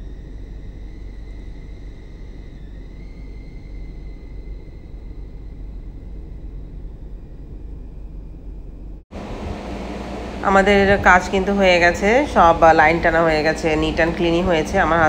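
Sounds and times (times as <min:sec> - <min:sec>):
faint high thin whine: 0:00.0 - 0:15.0
low background rumble: 0:00.0 - 0:15.0.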